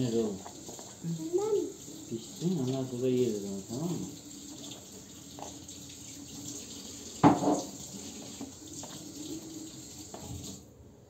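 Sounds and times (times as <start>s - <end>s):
water running from tap: 0.0s - 10.7s.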